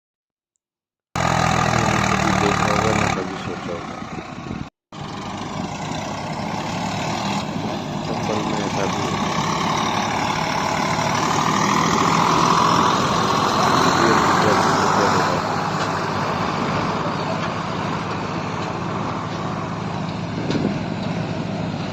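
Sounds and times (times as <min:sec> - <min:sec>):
tractor engine running: 0:01.2 - 0:21.9.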